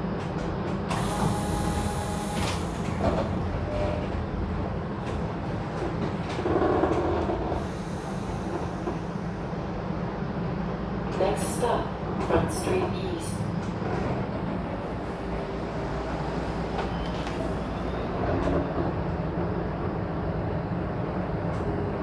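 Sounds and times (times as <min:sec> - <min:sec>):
streetcar rumble and hum: 0:00.0 - 0:22.0.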